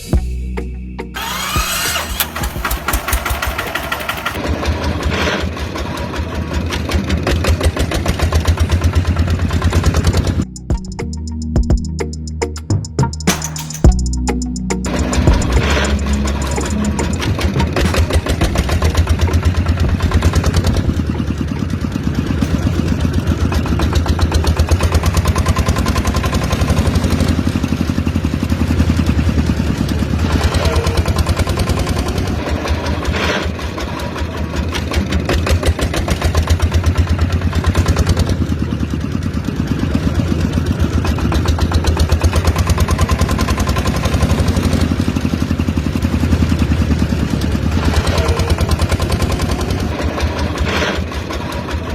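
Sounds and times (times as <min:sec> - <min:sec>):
small engine chugging: 0:01.2 - 0:10.6, 0:14.8 - 0:51.9.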